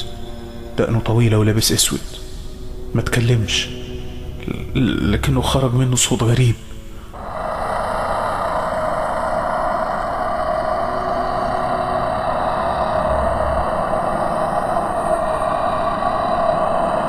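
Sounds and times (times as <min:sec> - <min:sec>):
eerie rushing drone: 0:00.0 - 0:17.0.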